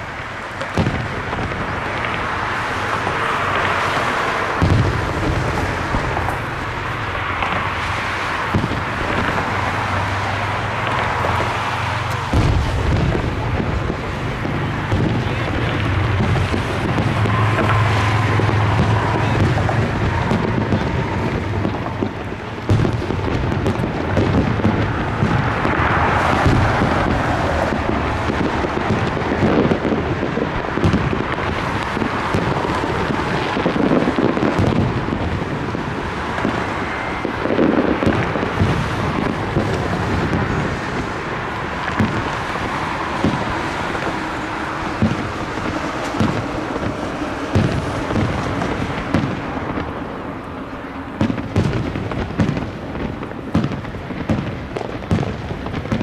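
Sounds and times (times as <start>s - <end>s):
fireworks shells bursting: 0.0s - 56.0s
rolling rumble and crackle: 0.0s - 56.0s.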